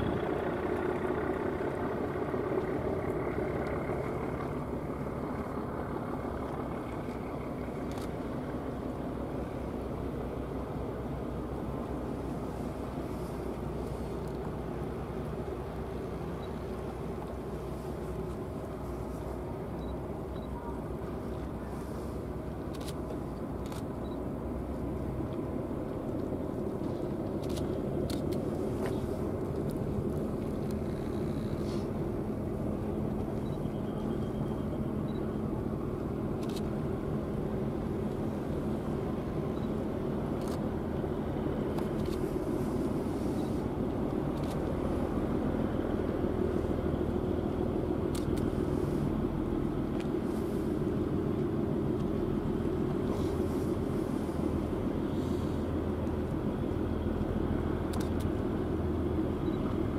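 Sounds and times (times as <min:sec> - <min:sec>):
ship engines droning: 0:00.0 - 0:59.9.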